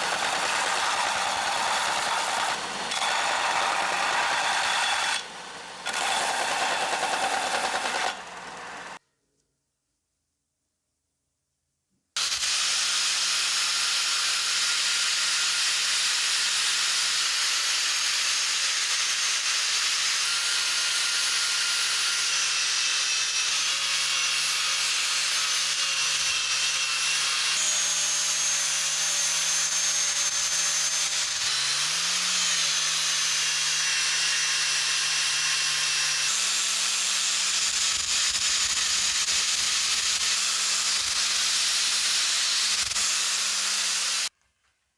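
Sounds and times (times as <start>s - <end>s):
power tool grinding: 0.0s - 9.0s, 12.2s - 44.4s.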